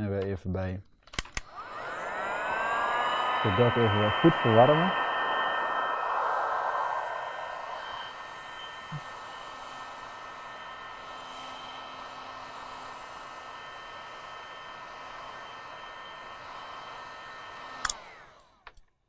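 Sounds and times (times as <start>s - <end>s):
heat gun blowing: 1.3s - 18.6s.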